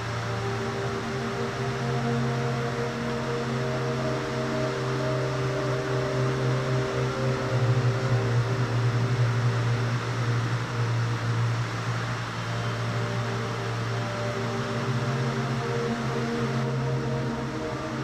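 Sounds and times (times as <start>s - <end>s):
droning synth pad chords: 0.0s - 18.0s.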